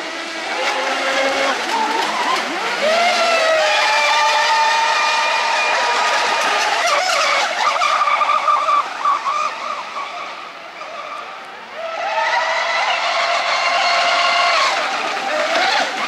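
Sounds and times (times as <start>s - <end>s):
model speedboat motors: 0.0s - 16.0s.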